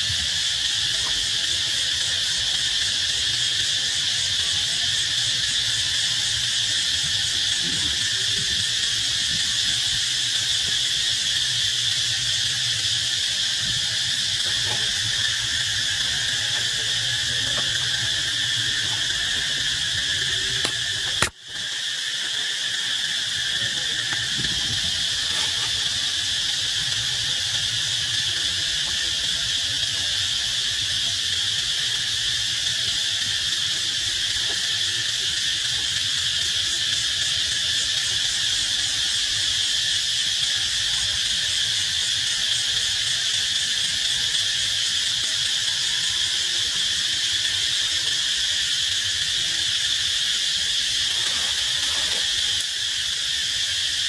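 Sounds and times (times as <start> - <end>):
high insect chorus: 0.0 - 54.0.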